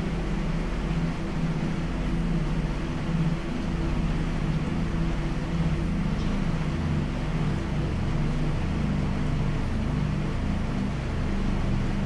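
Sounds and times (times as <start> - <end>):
low wavering drone: 0.0 - 12.0.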